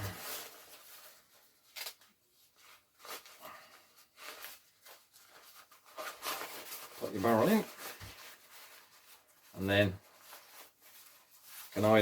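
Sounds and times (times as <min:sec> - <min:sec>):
jacket fabric rustling: 0:00.0 - 0:12.0.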